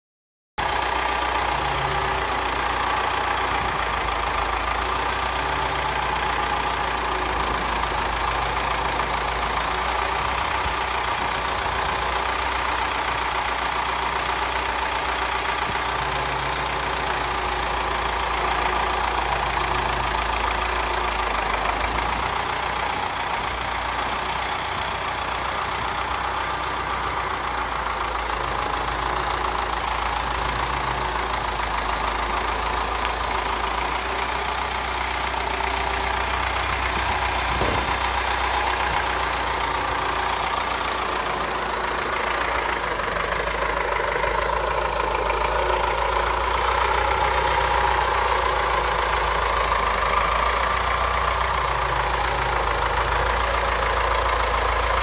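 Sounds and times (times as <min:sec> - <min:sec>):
tractor engine idling: 0:00.6 - 0:55.0.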